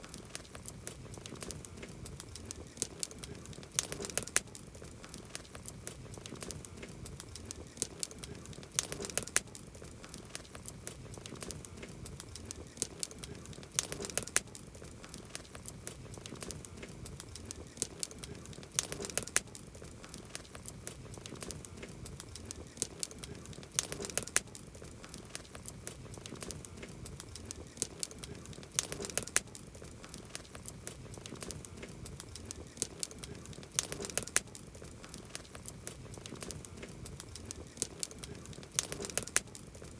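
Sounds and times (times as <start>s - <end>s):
campfire wood crackling: 0.0s - 39.9s.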